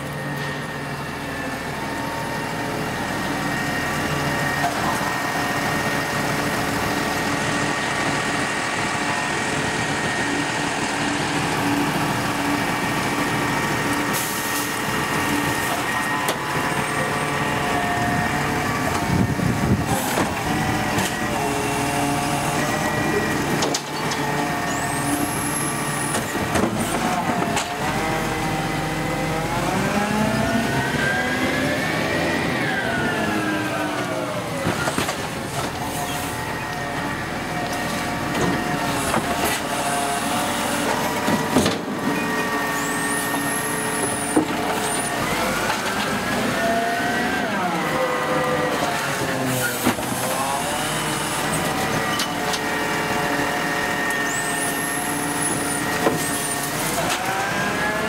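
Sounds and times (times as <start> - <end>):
diesel engine running: 0.0 - 58.0
hydraulic whine: 0.0 - 58.0.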